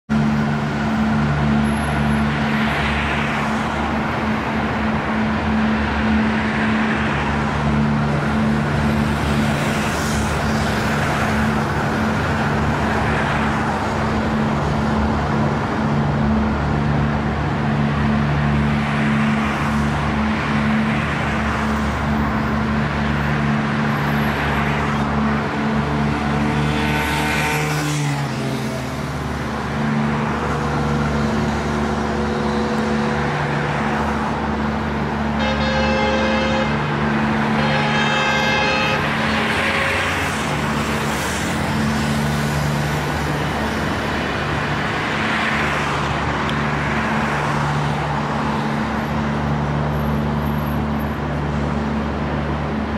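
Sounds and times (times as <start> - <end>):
vehicles passing by: 0.1 - 52.9.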